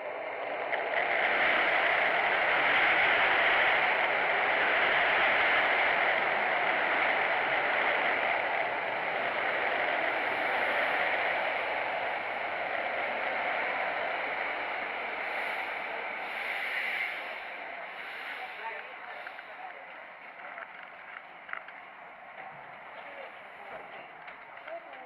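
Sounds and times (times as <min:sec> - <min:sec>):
electric train rushing: 0:00.0 - 0:25.0.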